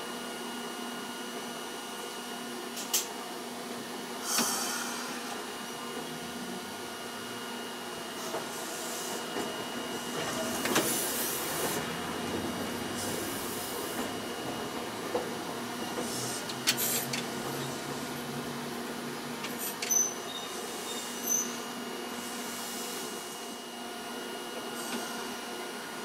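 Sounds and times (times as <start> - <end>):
tram running hum: 3.2 - 26.0.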